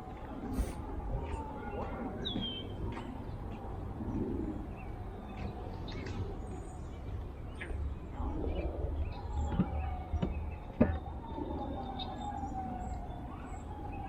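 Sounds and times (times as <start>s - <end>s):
faint siren wail: 0.0s - 14.0s
low rumble of traffic: 0.0s - 14.0s.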